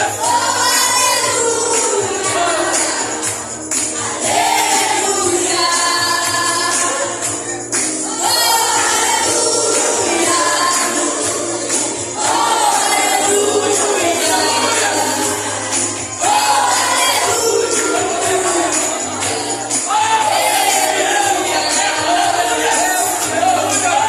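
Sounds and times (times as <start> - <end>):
voices singing a hymn: 0.0 - 24.0
jingling percussion: 0.1 - 24.0.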